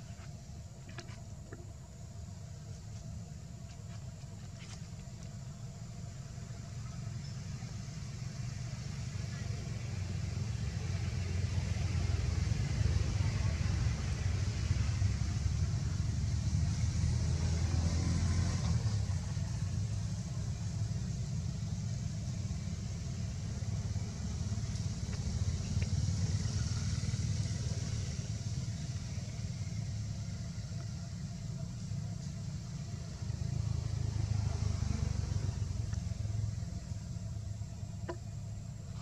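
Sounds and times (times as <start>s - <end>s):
low outdoor rumble: 0.0s - 39.0s.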